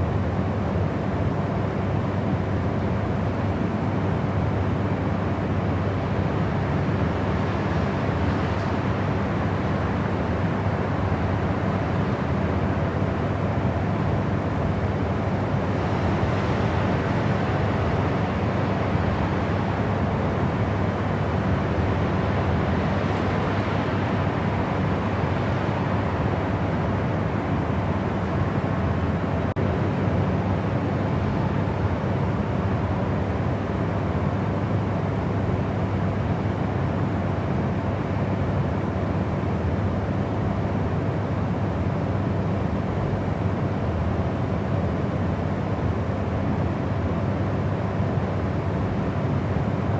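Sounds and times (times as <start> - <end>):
steady low white noise: 0.0 - 49.9.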